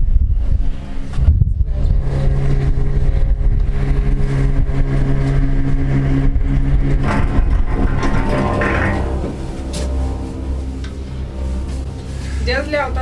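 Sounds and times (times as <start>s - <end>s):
low rumble of gondola cabin: 0.0s - 13.0s
mechanical hum: 0.0s - 13.0s.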